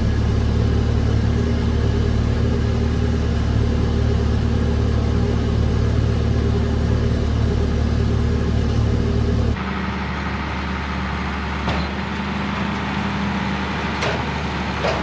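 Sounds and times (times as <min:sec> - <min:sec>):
engine rumbling steadily: 0:00.0 - 0:15.0.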